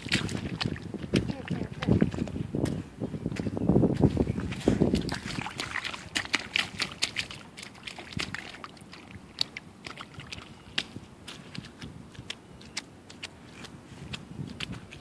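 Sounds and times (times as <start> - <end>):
rain boots splashing in puddle: 0.0 - 2.4, 4.0 - 15.0.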